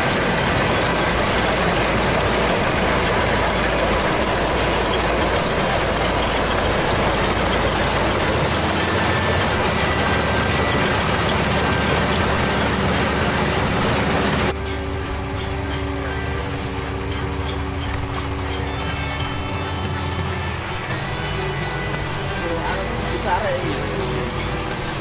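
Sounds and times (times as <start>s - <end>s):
combine harvester clattering: 0.0s - 25.0s.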